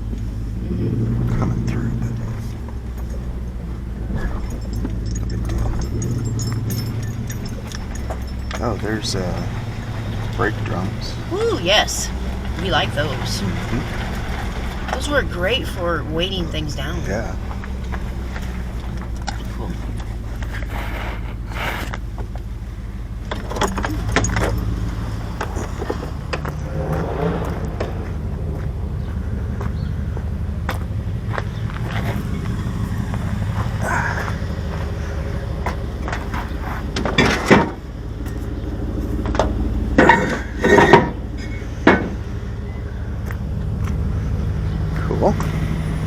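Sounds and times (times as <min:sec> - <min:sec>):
metal clanking: 0:00.0 - 0:46.0
rattles and clicks: 0:00.0 - 0:46.0
vehicle engine running: 0:00.0 - 0:46.0.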